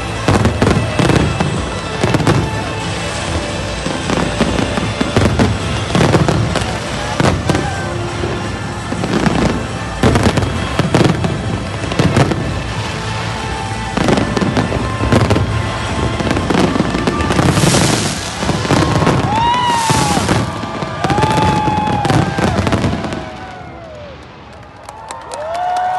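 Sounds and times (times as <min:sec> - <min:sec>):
fireworks bangs: 0:00.0 - 0:25.3
fireworks crackling: 0:00.0 - 0:25.9.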